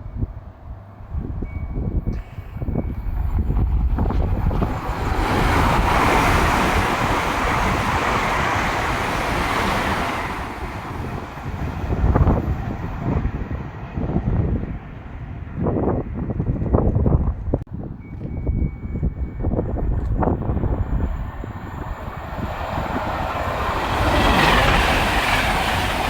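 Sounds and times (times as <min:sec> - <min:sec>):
train passing at speed: 0:00.0 - 0:17.2, 0:18.0 - 0:26.0
wind buffeting microphone: 0:00.0 - 0:26.0.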